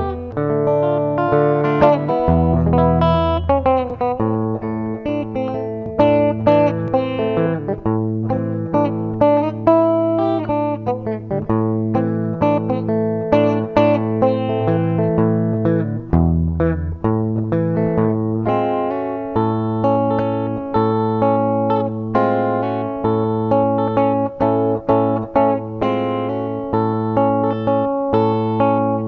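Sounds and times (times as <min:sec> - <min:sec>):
fingerstyle electric guitar: 0:00.0 - 0:29.0.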